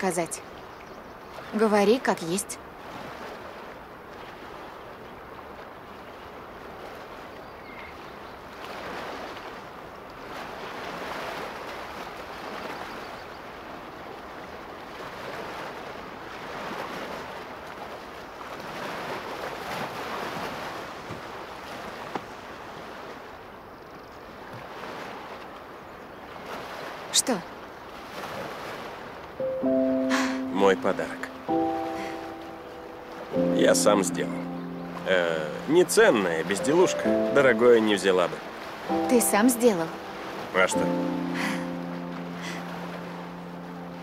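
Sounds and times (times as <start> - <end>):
lake waves lapping against shore: 0.0 - 44.0.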